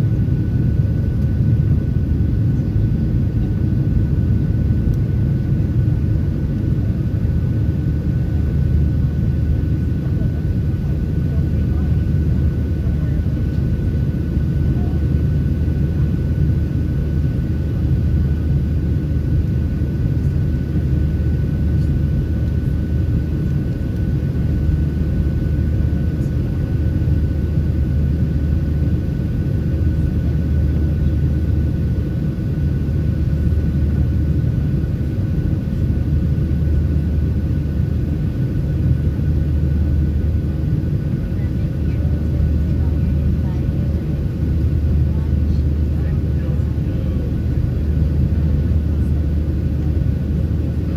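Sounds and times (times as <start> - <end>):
aircraft cabin engine rumble: 0.0 - 50.9.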